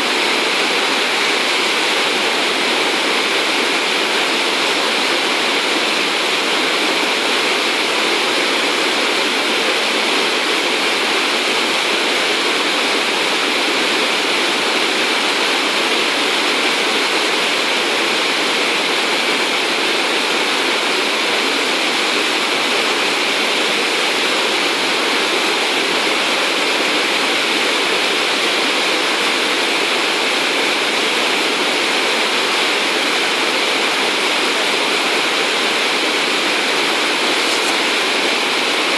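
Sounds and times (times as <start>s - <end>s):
river rushing over weir: 0.0s - 38.9s.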